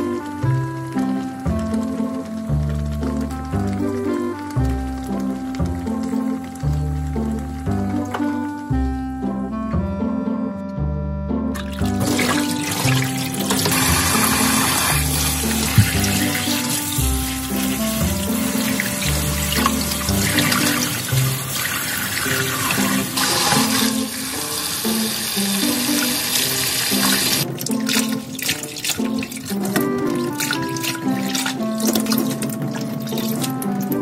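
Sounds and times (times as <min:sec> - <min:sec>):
water drips: 0:00.0 - 0:08.7, 0:11.6 - 0:34.0
tap water running and splashing: 0:00.0 - 0:08.9, 0:11.6 - 0:34.0.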